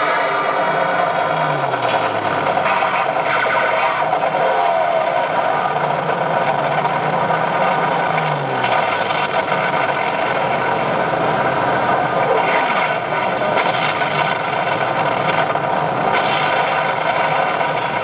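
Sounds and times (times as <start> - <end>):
constant tonal hum: 0.0 - 18.0
ship engine running: 0.0 - 18.0.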